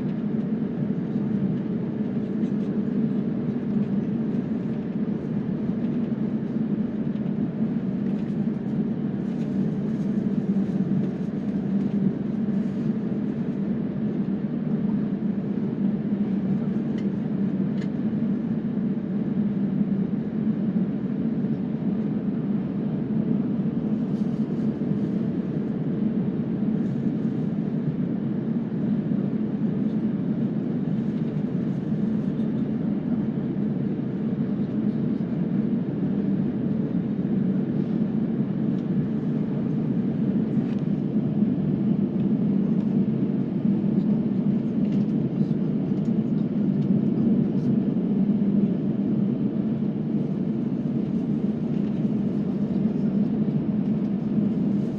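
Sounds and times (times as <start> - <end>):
faint steady hum: 0.0 - 54.9
jet engines rumbling in cabin: 0.0 - 54.9.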